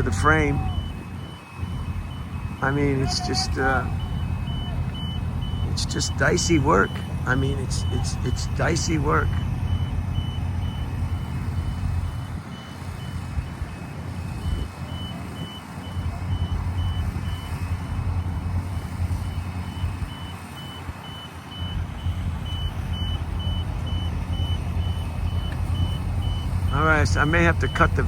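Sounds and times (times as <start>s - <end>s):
back-up alarm beeping: 0.0s - 28.0s
heavy engines droning: 0.0s - 28.0s.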